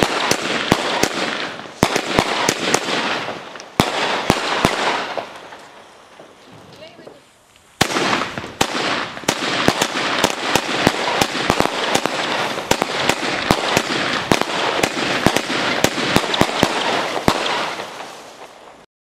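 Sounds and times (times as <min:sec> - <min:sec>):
firework shots and bangs: 0:00.0 - 0:06.4, 0:07.7 - 0:18.8
firework crackling hiss: 0:00.0 - 0:18.8.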